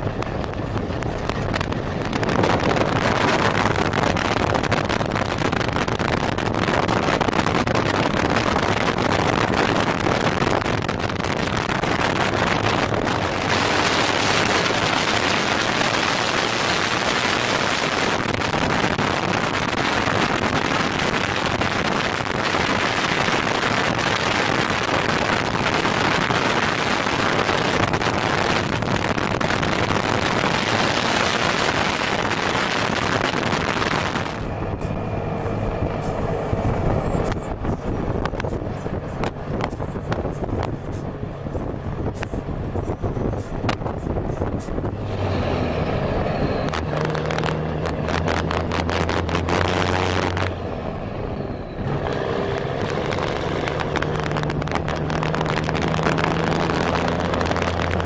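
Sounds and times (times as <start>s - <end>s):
truck engine drone: 0.0s - 58.0s
wind rushing over microphone: 0.0s - 58.0s.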